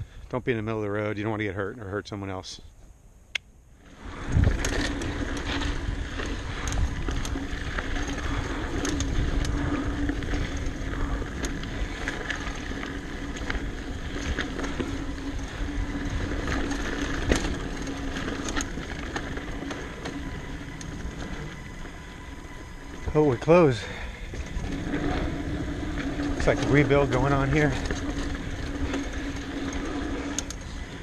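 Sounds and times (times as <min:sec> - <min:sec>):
bike tyres rolling on dirt: 0:00.0 - 0:02.6, 0:03.7 - 0:31.0
bike chain and frame rattling: 0:03.8 - 0:31.0
wind rumble on microphone: 0:03.8 - 0:31.0.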